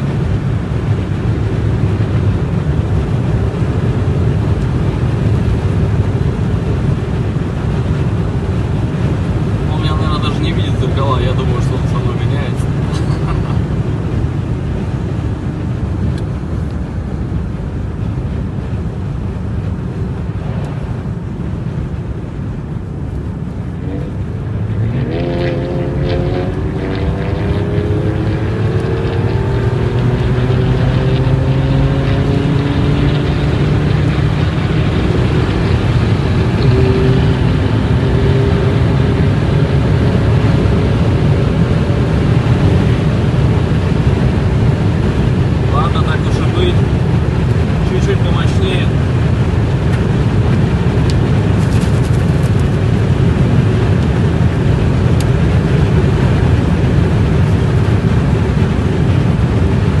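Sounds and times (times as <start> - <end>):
car exhaust rumbling: 0.0 - 60.0.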